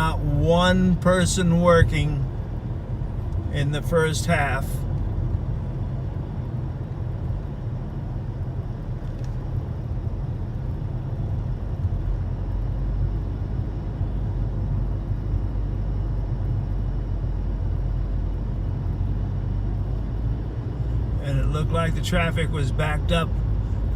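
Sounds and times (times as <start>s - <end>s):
car road and engine noise: 0.0s - 23.9s.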